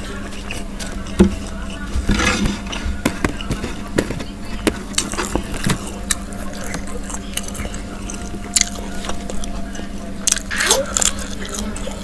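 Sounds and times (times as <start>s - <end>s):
steady low hum: 0.0s - 12.0s
crisp chewing crunches: 0.2s - 12.0s.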